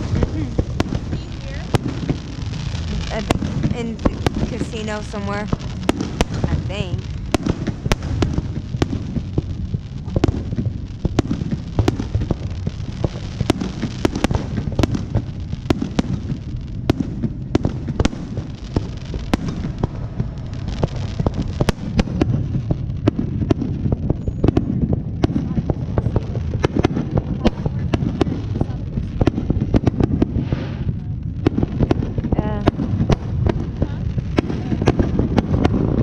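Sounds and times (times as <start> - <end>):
distant fireworks booms: 0.0 - 36.0
fireworks bangs and crackles: 0.0 - 36.0.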